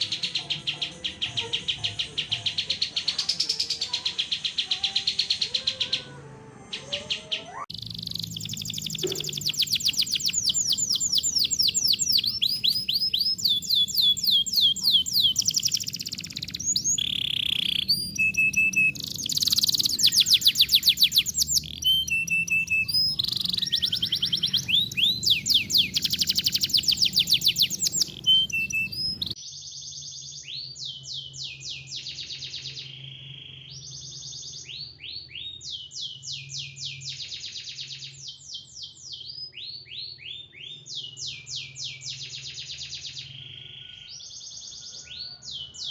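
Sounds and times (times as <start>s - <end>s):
songbird trills and chirps: 0.0s - 45.9s.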